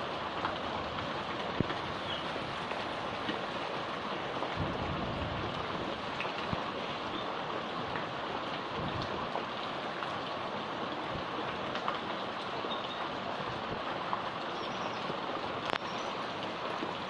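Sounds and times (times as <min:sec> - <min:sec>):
heavy rain hiss: 0:00.0 - 0:17.0
rain drops ticking: 0:00.0 - 0:17.0.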